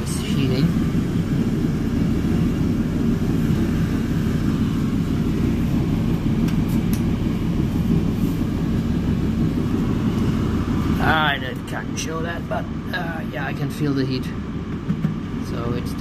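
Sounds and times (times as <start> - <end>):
tumble dryer rumbling: 0.0 - 16.0.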